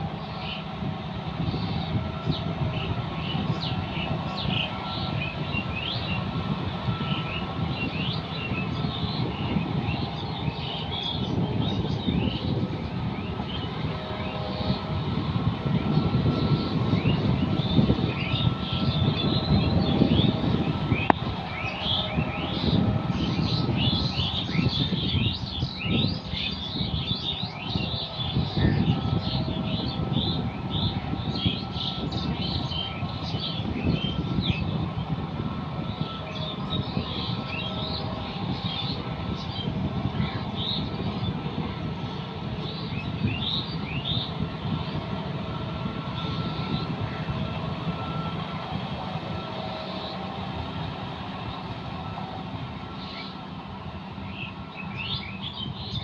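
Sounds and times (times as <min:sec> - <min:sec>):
birds chirping: 0:00.0 - 0:56.0
faint steady whine: 0:00.0 - 0:56.0
tractor engine running: 0:00.0 - 0:56.0.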